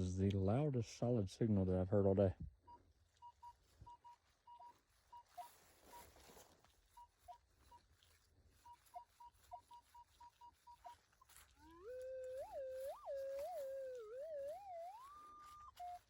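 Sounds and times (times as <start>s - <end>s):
metal detector beeping: 2.6s - 16.0s.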